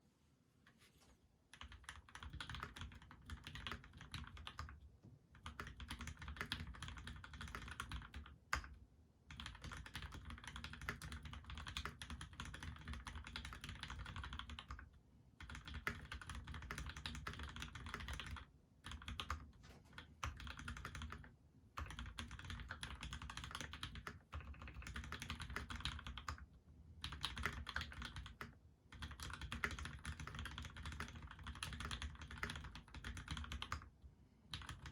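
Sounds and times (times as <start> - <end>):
mechanical keyboard typing: 1.5 - 4.8, 5.4 - 26.4, 27.0 - 33.9, 34.5 - 34.9.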